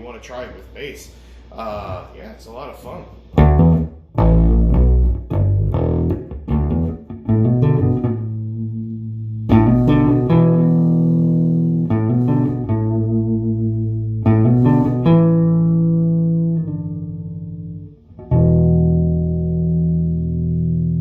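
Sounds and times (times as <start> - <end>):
electric bass guitar notes: 3.2 - 21.0.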